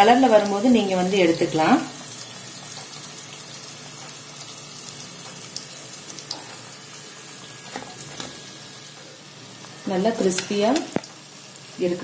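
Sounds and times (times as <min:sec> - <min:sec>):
oil sizzling deep-frying: 0:00.0 - 0:12.0.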